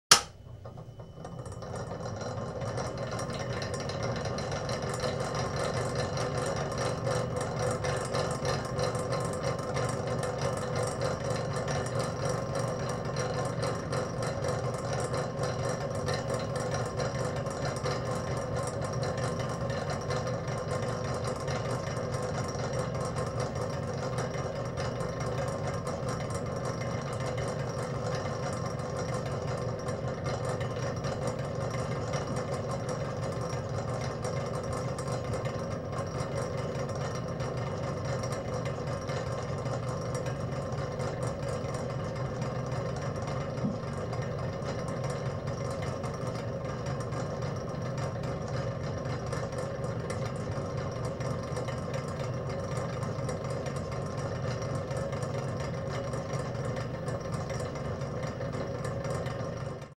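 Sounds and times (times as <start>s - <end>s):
spinning machine humming: 0.1s - 59.9s.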